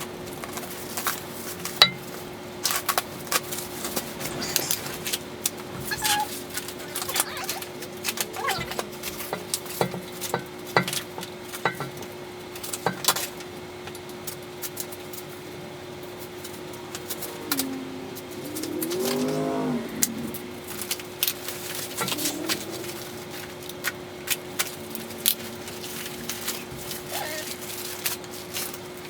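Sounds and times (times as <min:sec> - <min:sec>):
heater fans humming: 0:00.0 - 0:29.0.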